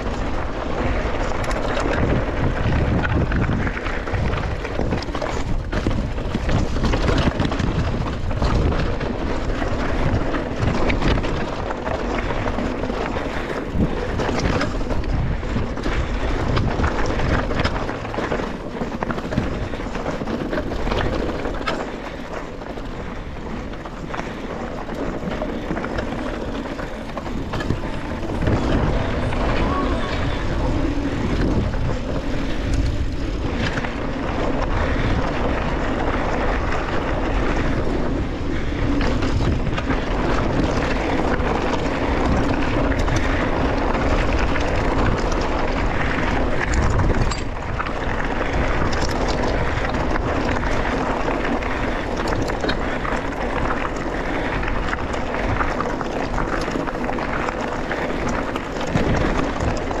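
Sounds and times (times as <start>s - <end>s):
bike rattling over rough ground: 0.0s - 60.0s
bike tyres rolling on gravel: 0.0s - 60.0s
wind noise on microphone: 0.0s - 60.0s.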